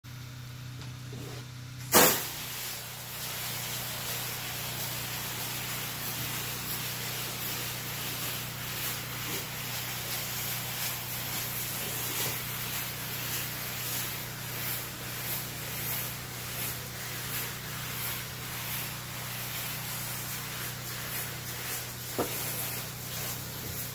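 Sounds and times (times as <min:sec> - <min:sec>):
spray wand hissing: 0:01.9 - 0:23.9.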